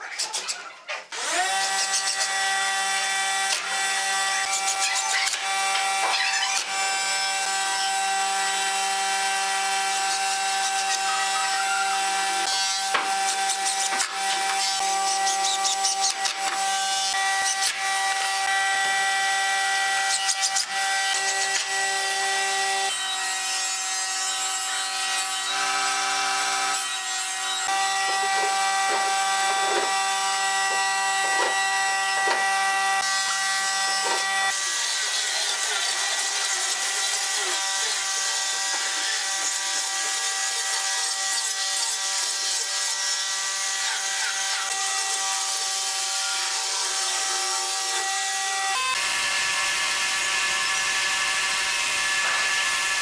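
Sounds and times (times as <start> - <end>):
angle grinder sanding wood: 1.2 - 53.0.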